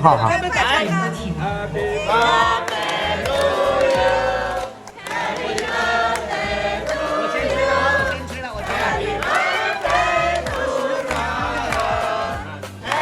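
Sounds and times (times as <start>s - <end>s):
group of people singing: 0.6s - 13.0s.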